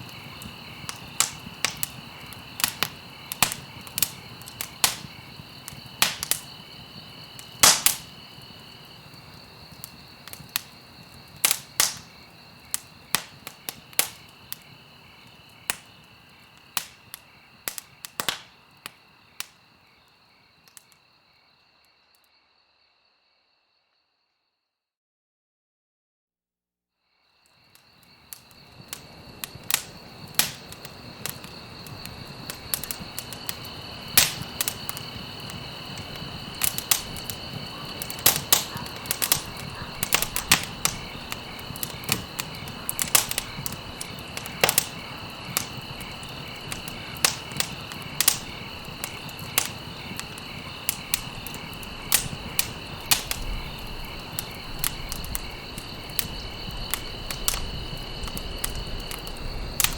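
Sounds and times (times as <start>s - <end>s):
fire hissing: 0.0s - 19.5s, 28.0s - 59.9s
campfire crackling and popping: 0.0s - 21.0s, 27.6s - 59.9s
crickets chirping: 0.0s - 24.8s, 27.0s - 59.9s.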